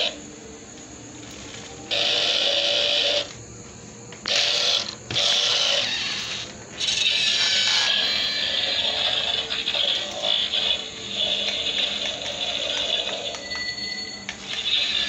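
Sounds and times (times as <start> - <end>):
toy car electric motor whirring: 1.3 - 3.4, 4.2 - 15.0.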